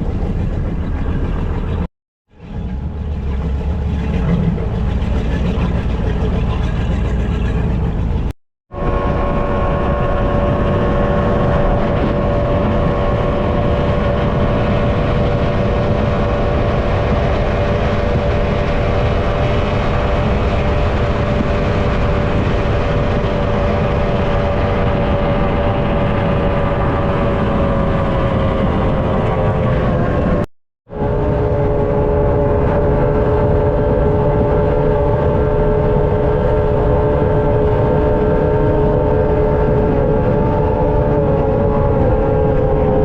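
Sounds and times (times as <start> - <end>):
powerboat engines running: 0.0 - 43.0.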